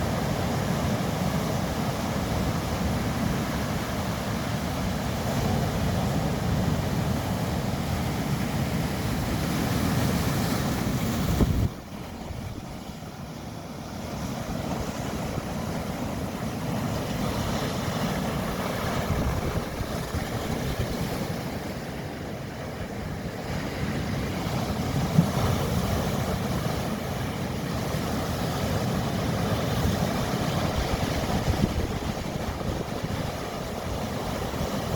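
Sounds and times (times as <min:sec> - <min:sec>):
wind rumbling on microphone: 0:00.0 - 0:13.2, 0:14.1 - 0:22.0, 0:23.2 - 0:34.9
sea waves washing: 0:00.0 - 0:34.9.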